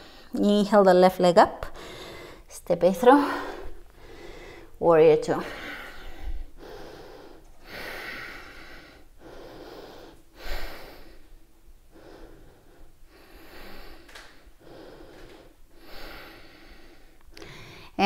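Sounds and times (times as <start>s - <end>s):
woman breathing steadily: 0.0s - 0.4s, 1.6s - 18.0s.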